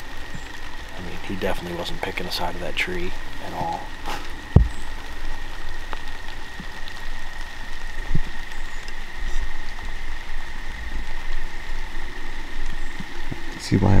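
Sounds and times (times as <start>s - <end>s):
insect trill: 0.0s - 14.0s
rustling hiss: 0.0s - 14.0s.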